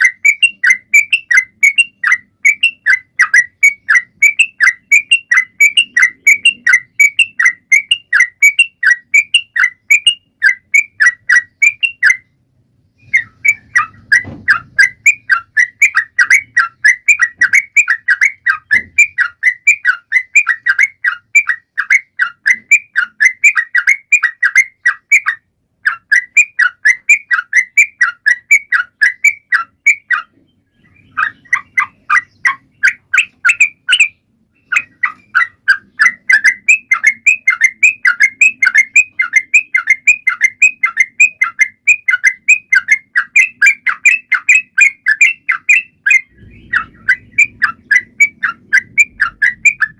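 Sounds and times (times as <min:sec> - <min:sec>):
bird singing bright notes: 0:00.0 - 0:49.9.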